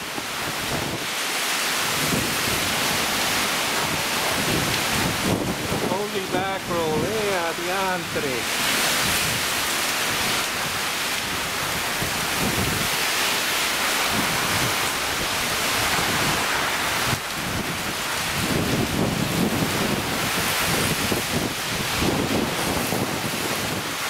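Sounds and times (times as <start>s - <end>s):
rain: 0.0s - 24.0s
wind: 0.0s - 24.0s.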